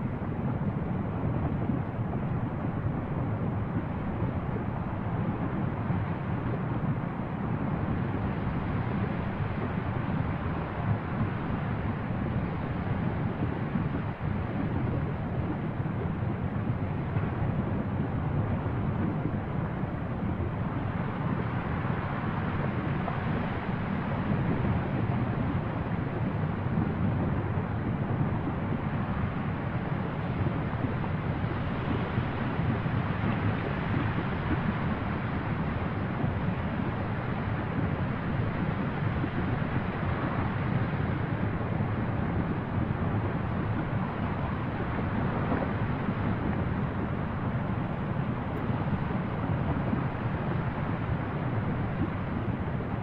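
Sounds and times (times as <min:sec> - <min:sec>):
lava eruption roaring: 0:00.0 - 0:53.0
wind on microphone: 0:00.0 - 0:53.0.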